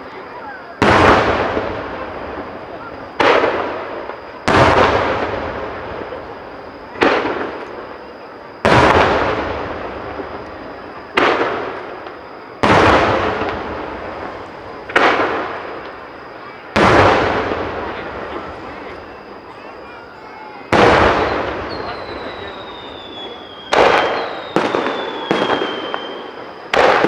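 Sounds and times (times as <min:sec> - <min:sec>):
firework shells booming: 0:00.0 - 0:27.0.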